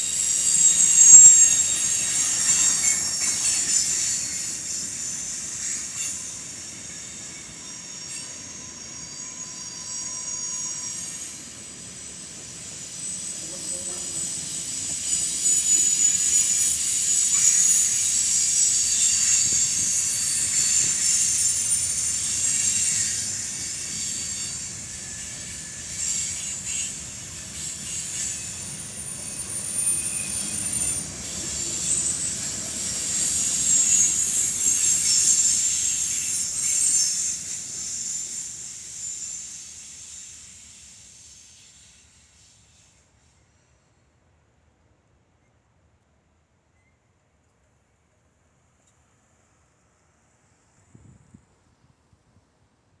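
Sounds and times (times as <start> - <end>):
high wheel squeal: 0.0 - 43.9
freight train cars rolling past: 0.0 - 44.5.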